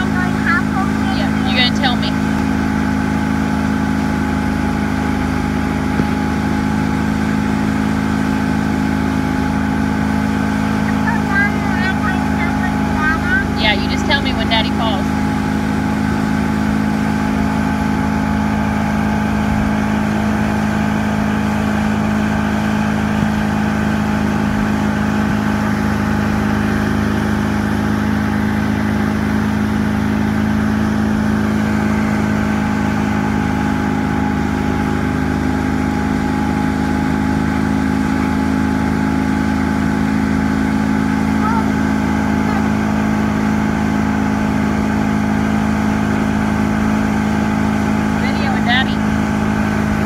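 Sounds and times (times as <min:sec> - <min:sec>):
outboard motor droning: 0:00.0 - 0:50.0
wind: 0:00.0 - 0:50.0.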